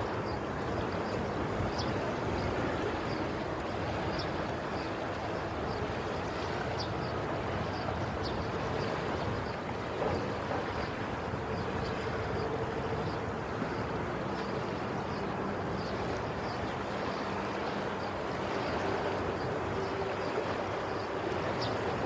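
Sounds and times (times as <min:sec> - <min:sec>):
sea waves: 0:00.0 - 0:22.0.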